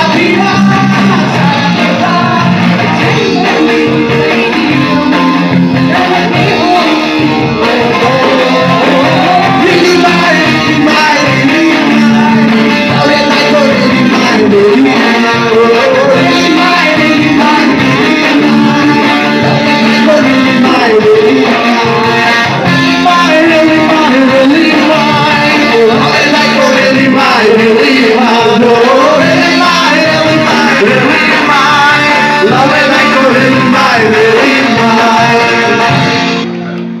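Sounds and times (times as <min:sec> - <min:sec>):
live rock band playing: 0:00.0 - 0:37.0
person singing: 0:00.0 - 0:37.0.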